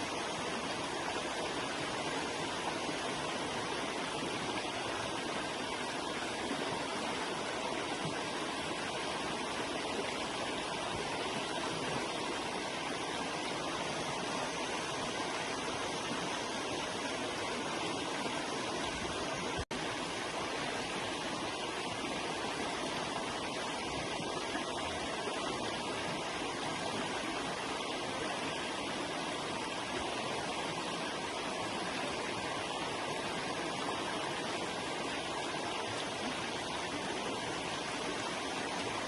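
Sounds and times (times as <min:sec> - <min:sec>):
river water rushing over rocks: 0:00.0 - 0:39.0.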